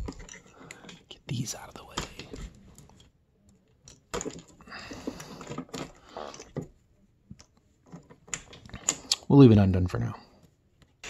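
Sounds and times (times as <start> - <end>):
cables and brass fittings rattling: 0.0 - 9.3.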